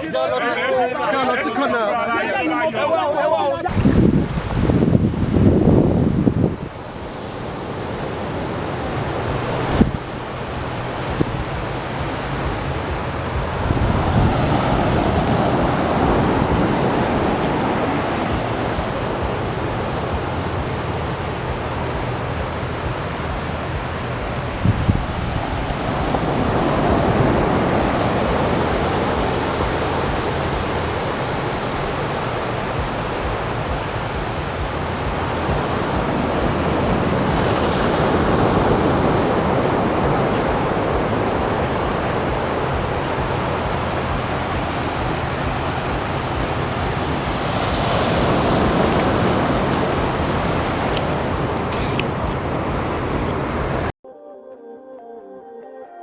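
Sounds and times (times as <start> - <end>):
surging water: 3.6 - 54.0
wind rushing: 3.7 - 54.0.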